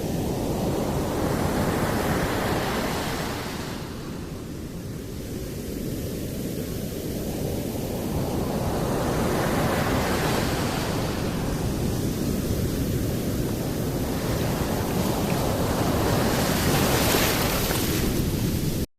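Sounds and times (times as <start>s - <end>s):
waves breaking: 0.0s - 18.8s
low rumble of surf: 0.0s - 18.9s.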